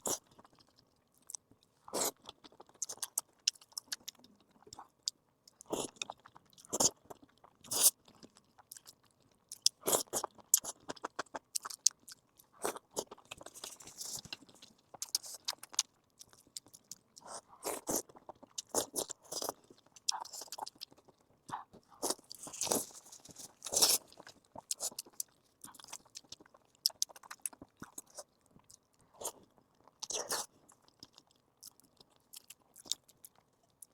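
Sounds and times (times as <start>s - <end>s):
person chewing crunchy food: 0.0s - 33.9s.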